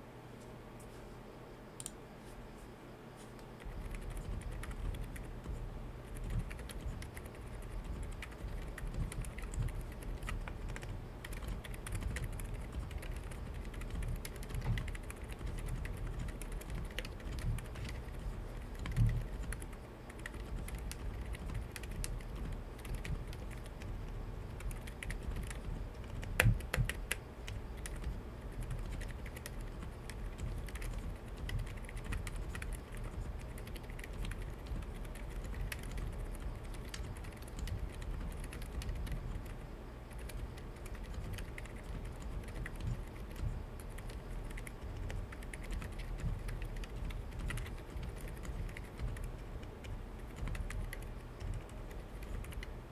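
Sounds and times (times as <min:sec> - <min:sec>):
mechanical keyboard typing: 0:03.6 - 0:52.8.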